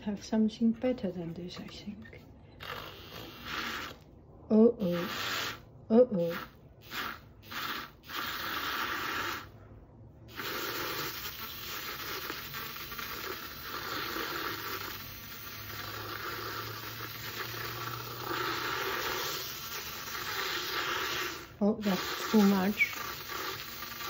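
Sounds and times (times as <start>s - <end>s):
milk frother whisking milk: 2.6s - 4.0s, 4.8s - 5.6s, 6.2s - 9.6s, 10.3s - 24.0s.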